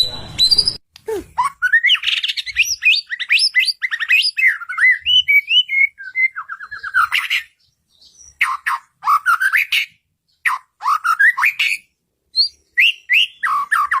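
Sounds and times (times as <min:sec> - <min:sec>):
bird singing whistled phrases: 0:00.0 - 0:00.8, 0:01.4 - 0:14.0.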